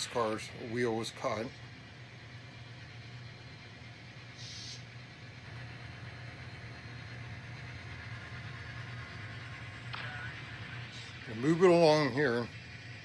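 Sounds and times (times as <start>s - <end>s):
model train humming: 0.0s - 13.0s.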